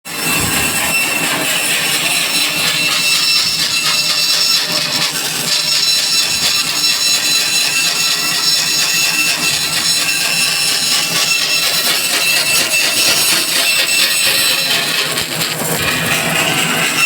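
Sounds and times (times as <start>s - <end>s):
power saw cutting wood: 0.1s - 17.0s.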